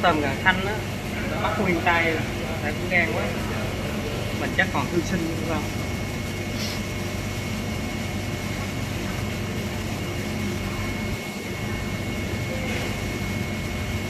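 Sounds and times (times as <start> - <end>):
mechanical drone with high whine: 0.0 - 14.0.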